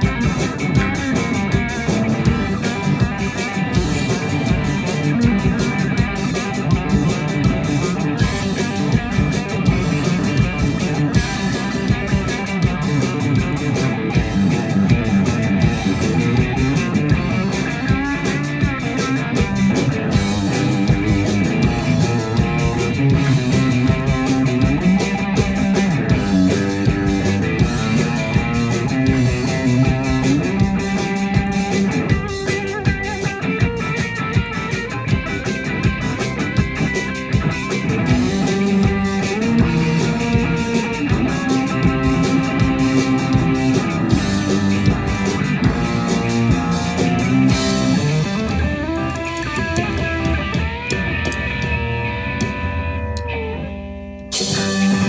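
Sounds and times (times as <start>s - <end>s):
drum kit: 0.0s - 55.0s
electric guitars: 0.0s - 55.0s
rock band playing: 0.0s - 55.0s.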